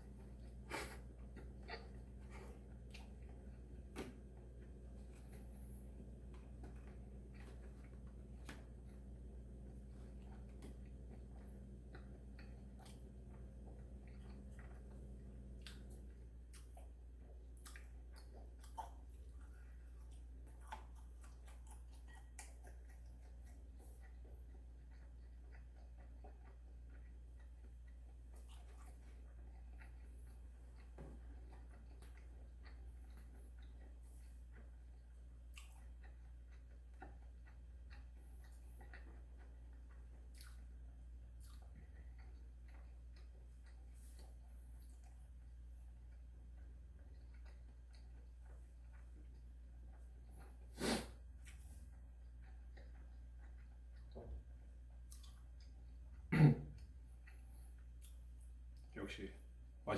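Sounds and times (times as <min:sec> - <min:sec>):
person chewing: 0:00.0 - 0:58.9.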